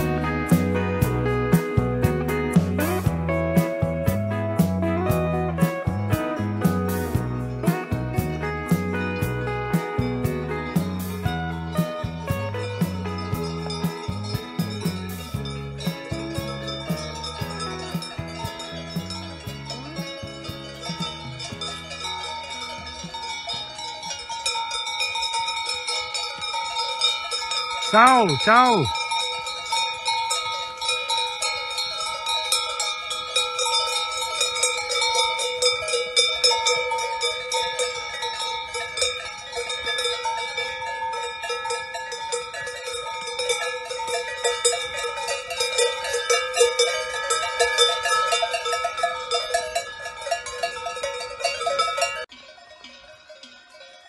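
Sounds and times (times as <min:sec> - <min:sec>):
cowbells clanking and ringing: 0:05.0 - 0:54.0.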